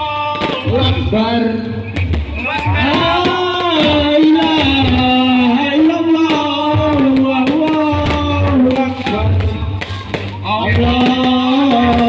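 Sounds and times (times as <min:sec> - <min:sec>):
loud music through loudspeakers: 0:00.0 - 0:12.0
heavy bass pulses: 0:00.4 - 0:12.0
sharp percussion hits: 0:01.9 - 0:12.0.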